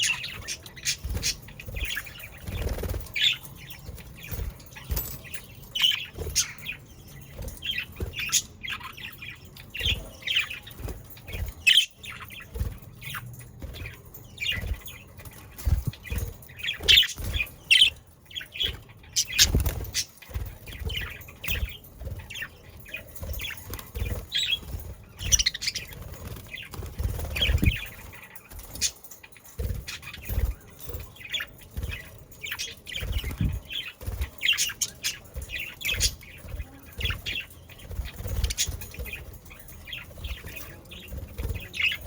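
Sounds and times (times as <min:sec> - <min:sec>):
wing flutters: 0:00.0 - 0:08.9, 0:09.7 - 0:42.0.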